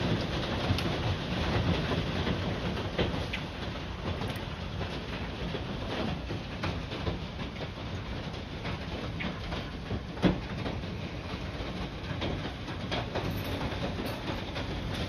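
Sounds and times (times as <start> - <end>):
heavy rain pelting: 0.0 - 15.0.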